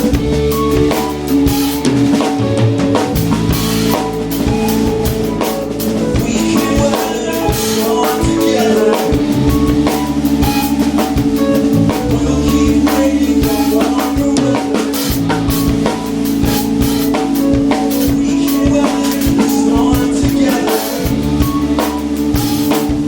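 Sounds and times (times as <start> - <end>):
drum kit: 0.0 - 23.0
live band playing: 0.0 - 23.0.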